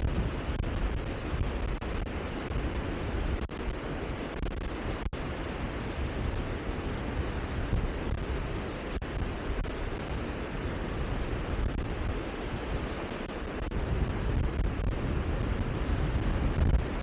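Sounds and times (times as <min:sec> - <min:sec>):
gusty rushing noise: 0:00.0 - 0:17.0.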